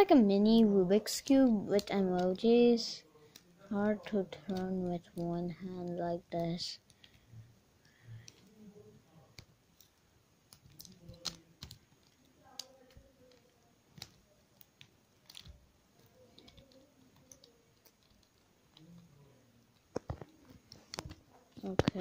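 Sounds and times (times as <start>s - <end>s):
puzzle cube clicking: 1.2s - 22.0s.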